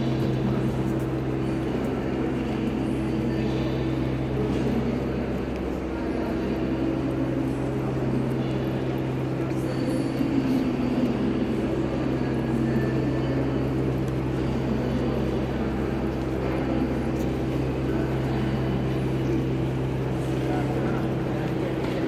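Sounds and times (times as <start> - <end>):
faint background noise: 0.0 - 22.0
low hum of station concourse: 0.0 - 22.0.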